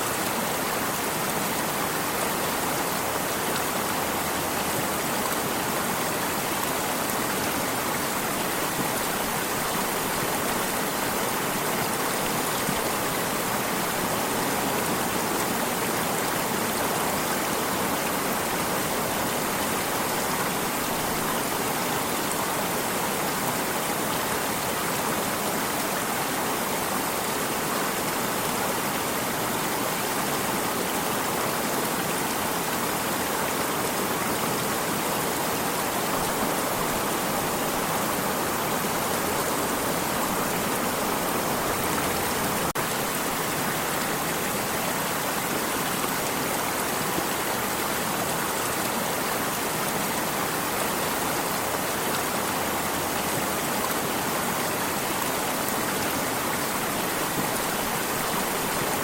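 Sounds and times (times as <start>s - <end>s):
water stream rushing: 0.0s - 59.0s.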